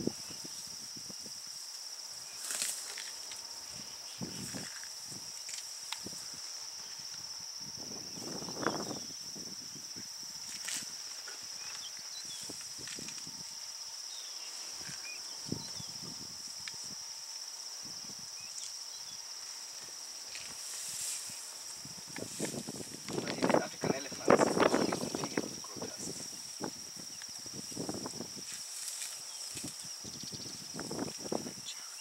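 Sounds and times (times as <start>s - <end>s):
insects buzzing: 0.0s - 32.0s
elephants rustling dry grass: 0.1s - 7.3s, 10.2s - 16.0s, 18.4s - 31.6s.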